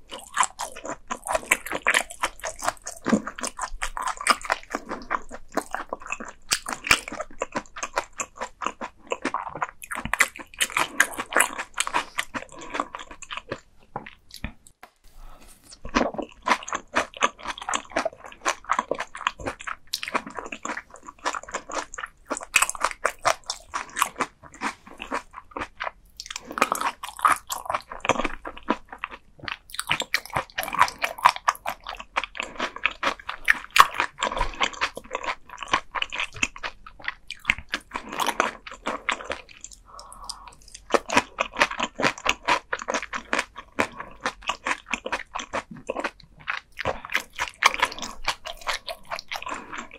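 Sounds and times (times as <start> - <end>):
crunchy chewing of fish: 0.0 - 14.8, 15.7 - 49.9.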